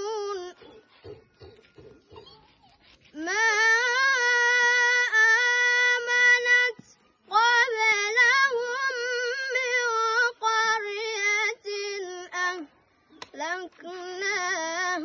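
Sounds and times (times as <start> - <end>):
boy reciting in melodic voice: 0.0 - 0.8, 3.0 - 15.0.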